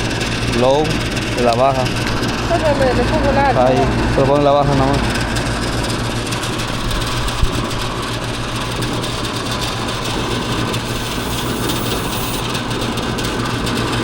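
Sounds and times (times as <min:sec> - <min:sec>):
air conditioner fan rush: 0:00.0 - 0:14.0.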